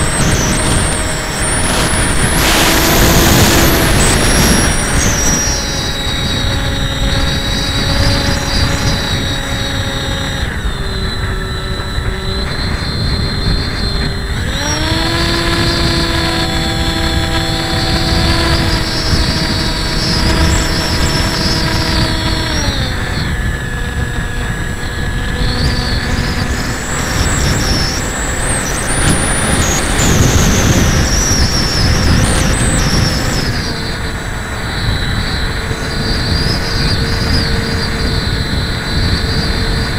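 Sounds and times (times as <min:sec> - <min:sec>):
air rushing over camera: 0:00.0 - 0:39.8
model plane motor whining: 0:00.0 - 0:39.9.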